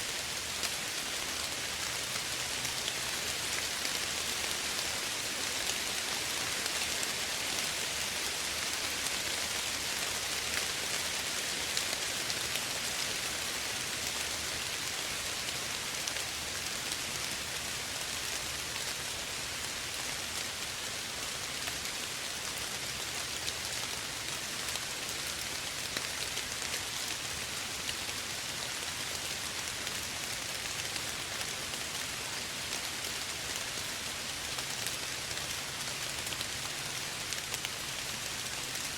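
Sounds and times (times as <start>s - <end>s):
soft rain hissing: 0.0s - 38.9s
raindrops ticking on a surface: 0.1s - 38.9s.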